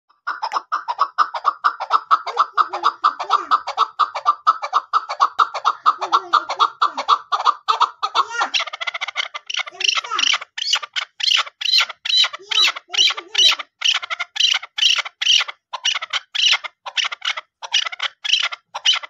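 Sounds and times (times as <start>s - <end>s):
partridge clucking calls: 0.1s - 19.0s.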